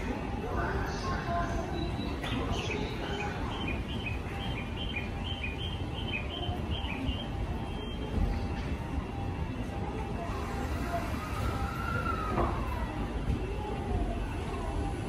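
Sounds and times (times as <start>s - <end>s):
low rumble of station noise: 0.0s - 15.0s.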